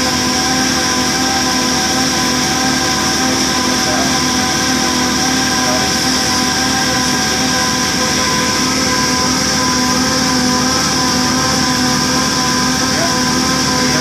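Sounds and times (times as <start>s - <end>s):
boring machine humming: 0.0s - 14.0s.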